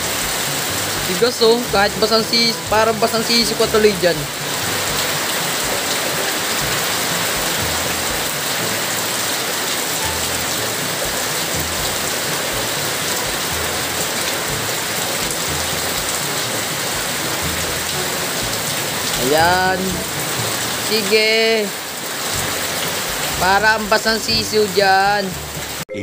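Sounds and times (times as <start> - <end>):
heavy rain on pooled water: 0.0 - 25.9.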